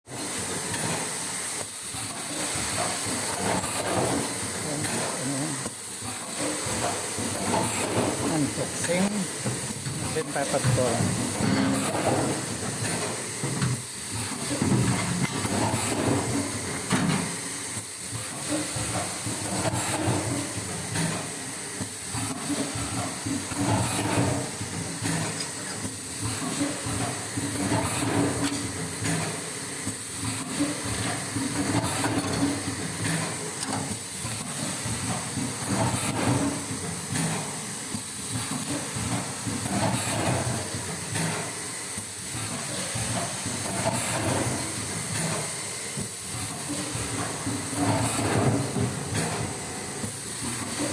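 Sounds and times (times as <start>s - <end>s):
machine mechanical hiss: 0.1s - 50.9s.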